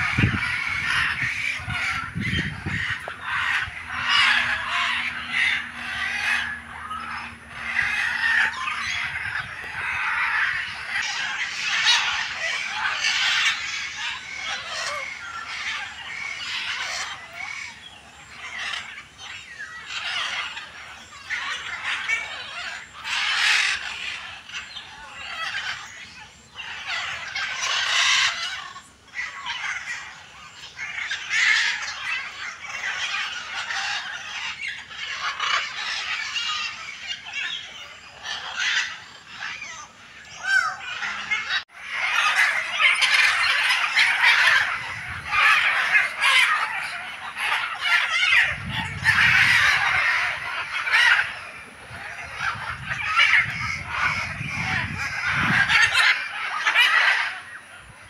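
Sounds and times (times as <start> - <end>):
turkeys and guineafowl calling: 0.0 - 58.0.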